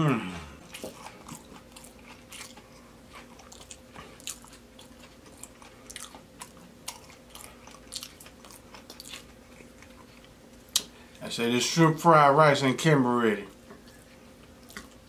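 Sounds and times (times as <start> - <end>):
person chewing crunchy food: 0.0 - 11.2, 13.5 - 15.0.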